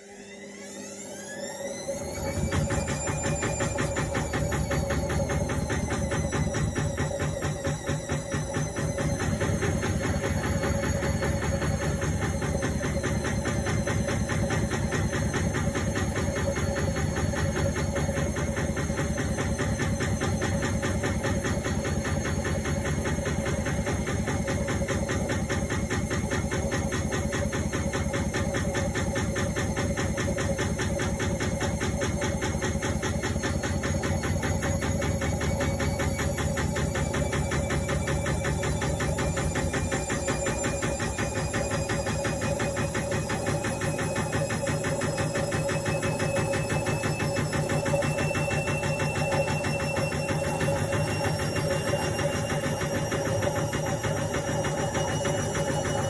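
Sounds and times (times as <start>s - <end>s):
washing machine humming: 0.6s - 56.0s.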